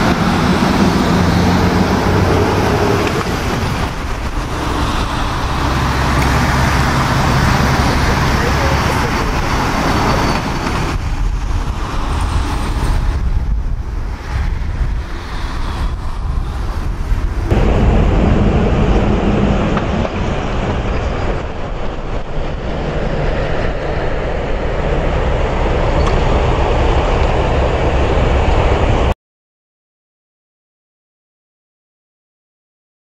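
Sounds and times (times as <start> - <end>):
jet engines roaring on landing: 0.0 - 29.2.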